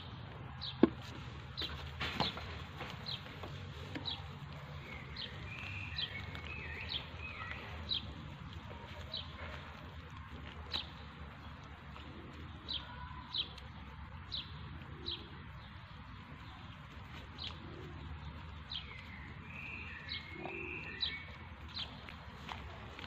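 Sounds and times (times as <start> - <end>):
low background noise: 0.0 - 23.0
small birds chirping: 0.0 - 23.0.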